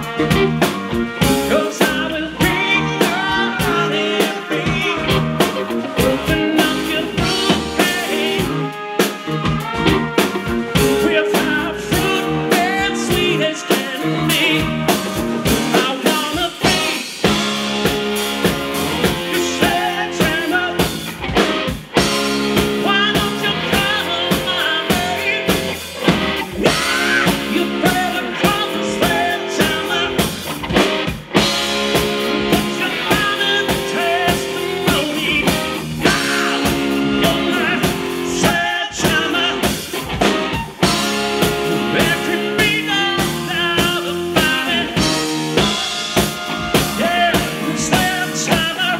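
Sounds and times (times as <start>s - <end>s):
drum kit: 0.0s - 48.9s
electric bass: 0.0s - 48.9s
electric guitar: 0.0s - 48.9s
saxophone: 0.0s - 48.9s
person singing: 1.2s - 17.2s, 19.0s - 21.0s, 22.6s - 25.8s, 26.5s - 30.5s, 31.9s - 39.8s, 40.8s - 48.9s.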